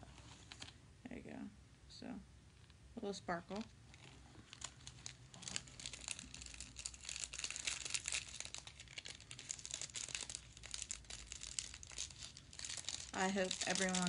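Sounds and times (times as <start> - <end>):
packet crinkling and rustling: 0.1 - 0.8, 3.4 - 14.0.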